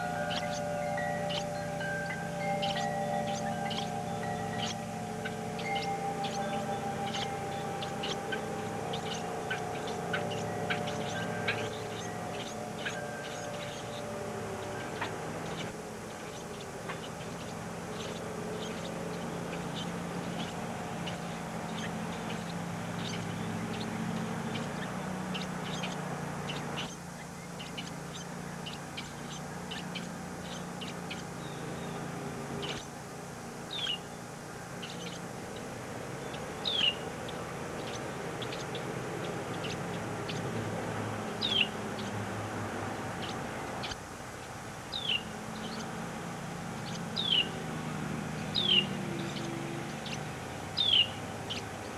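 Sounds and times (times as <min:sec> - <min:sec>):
baby birds chirping: 0:00.0 - 0:32.9, 0:34.8 - 0:42.2, 0:42.9 - 0:44.0, 0:44.9 - 0:46.0, 0:46.7 - 0:51.9
steady low hum: 0:00.0 - 0:51.9.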